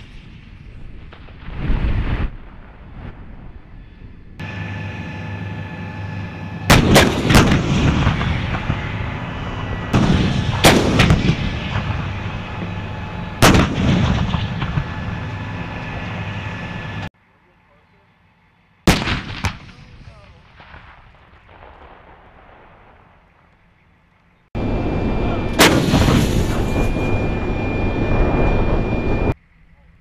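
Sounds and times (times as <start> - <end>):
howitzer shots with rumble: 0.0 - 17.1, 18.8 - 23.5, 24.6 - 29.4.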